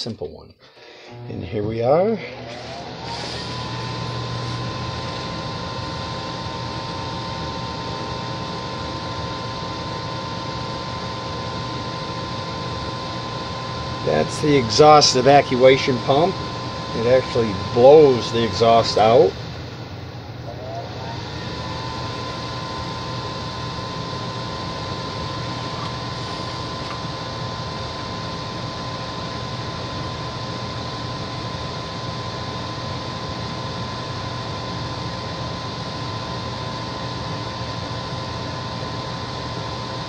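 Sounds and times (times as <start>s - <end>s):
furnace fan motor whining: 0.0s - 40.0s.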